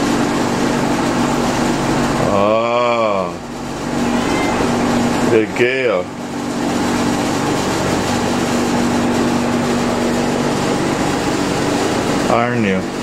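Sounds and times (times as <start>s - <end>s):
mechanical hum with hiss: 0.0s - 13.0s.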